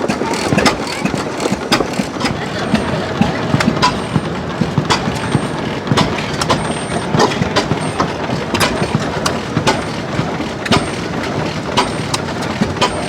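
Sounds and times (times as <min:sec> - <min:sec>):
engine machinery running: 0:00.0 - 0:13.0
sharp irregular clicks and knocks: 0:00.0 - 0:13.0.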